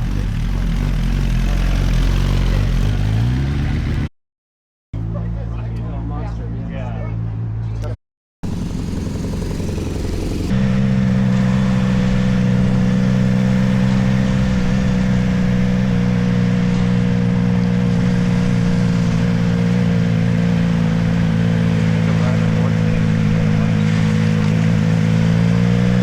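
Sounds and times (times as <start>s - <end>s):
motorcycle engine droning: 0.0s - 4.1s, 5.0s - 26.0s.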